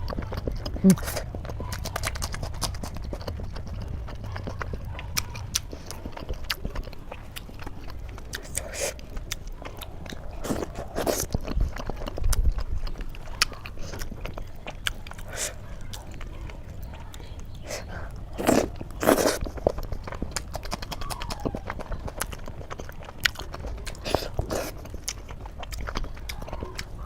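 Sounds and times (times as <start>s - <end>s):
person chewing with wet mouth clicks: 0.0s - 27.0s.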